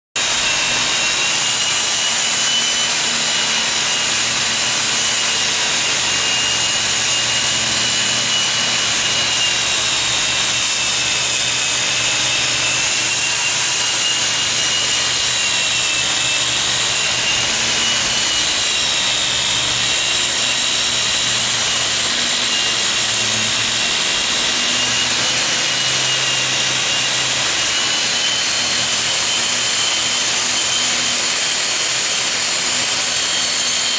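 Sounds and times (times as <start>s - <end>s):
angle grinder grinding metal: 0.2s - 33.9s.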